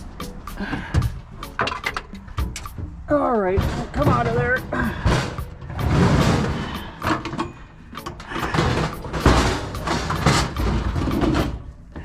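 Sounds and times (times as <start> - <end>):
metal objects clanking and scraping: 0.2 - 11.8.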